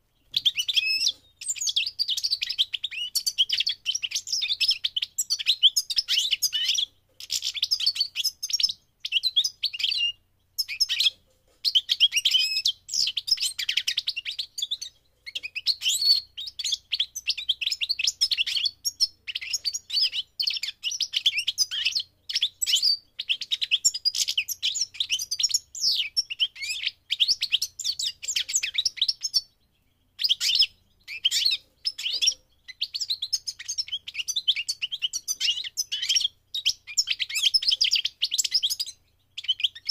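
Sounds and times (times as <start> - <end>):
finch singing fast twittering: 0.2 - 39.9.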